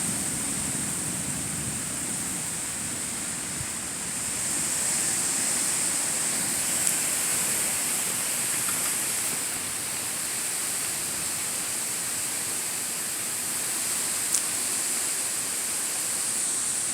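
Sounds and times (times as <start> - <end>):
storm rain hiss: 0.0 - 16.9
wind: 0.0 - 16.9.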